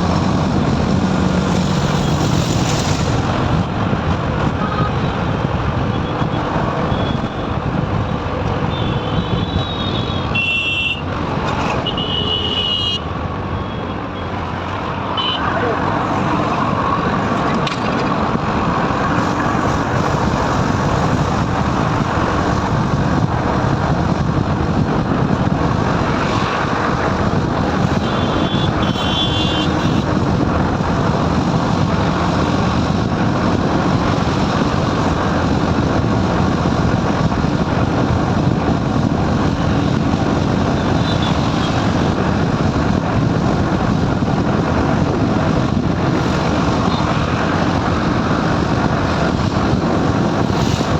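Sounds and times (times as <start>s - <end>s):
wind rush: 0.0s - 50.9s.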